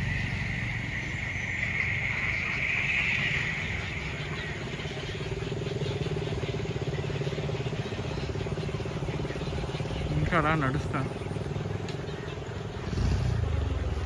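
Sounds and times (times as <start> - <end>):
high hissing chorus: 0.0 - 14.0
vehicle engine pulsing hum: 0.0 - 14.0.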